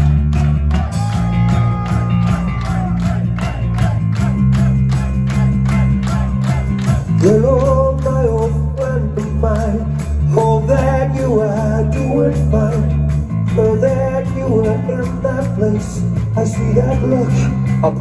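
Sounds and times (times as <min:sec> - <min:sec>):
hard rock band playing live: 0:00.0 - 0:18.0.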